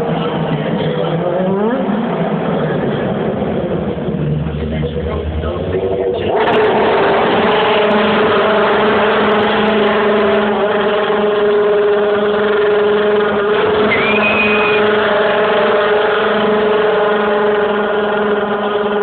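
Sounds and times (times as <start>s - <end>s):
car engine revving high: 0.0s - 19.0s
tyres spinning in a burnout: 0.0s - 19.0s.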